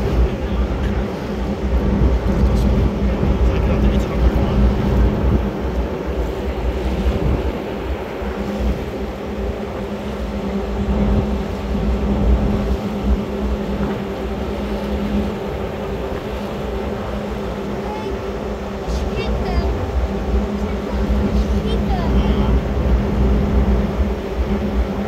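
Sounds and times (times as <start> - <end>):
boat engine humming and rumbling: 0.0 - 25.0.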